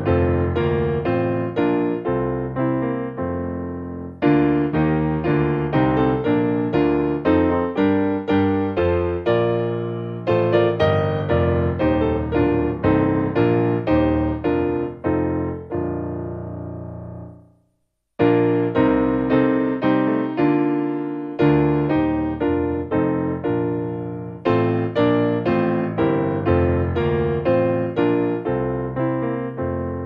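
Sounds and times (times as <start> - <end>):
solo piano music: 0.0 - 30.0.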